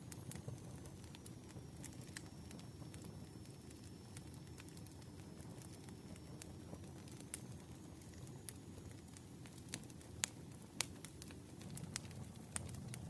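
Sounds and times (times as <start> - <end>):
low rumble of flames: 0.0 - 13.0
wood fire crackling: 0.0 - 13.0.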